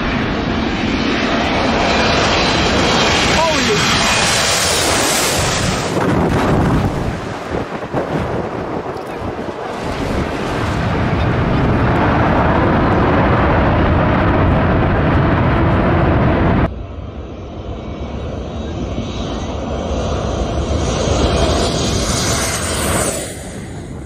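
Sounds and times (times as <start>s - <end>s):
airliner engines overhead: 0.0s - 24.0s
passing plane with high whine: 0.0s - 24.0s.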